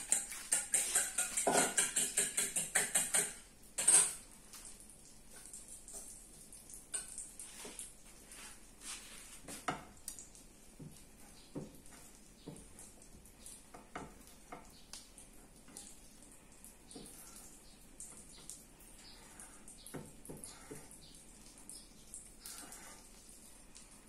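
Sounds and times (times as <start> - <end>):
spatula tapping and scraping pans: 0.0 - 23.9
faint sizzle in pans: 0.0 - 24.0.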